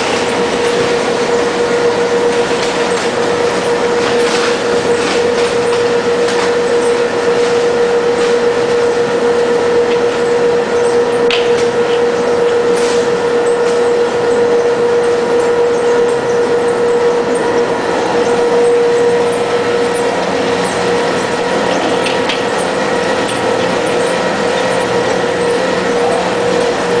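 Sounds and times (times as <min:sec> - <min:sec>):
recycling machine running: 0:00.0 - 0:27.0.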